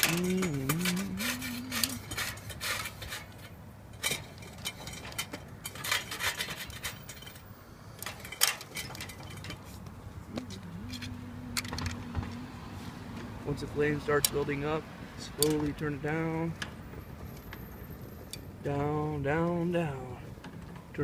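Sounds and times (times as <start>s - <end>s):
heater burner metal clicks and scraping: 0.0s - 12.4s, 13.9s - 18.9s.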